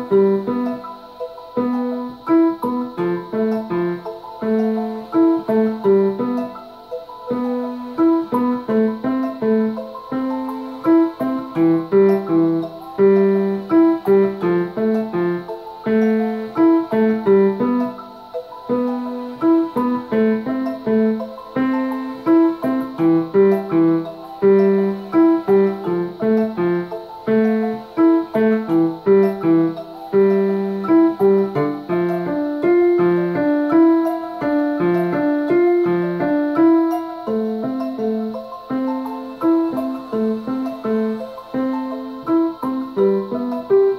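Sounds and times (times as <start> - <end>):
digital piano single notes: 0.0 - 43.9
recorded piano piece: 0.0 - 43.9.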